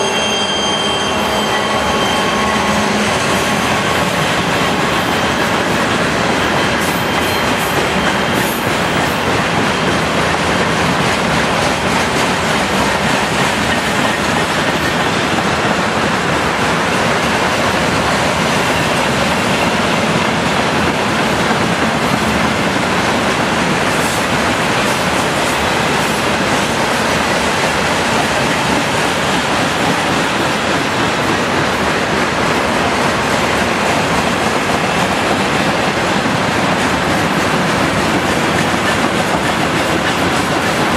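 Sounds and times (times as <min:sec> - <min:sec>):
diesel locomotive engine roaring: 0:00.0 - 0:40.9
train wheels clattering on rails: 0:01.1 - 0:40.9.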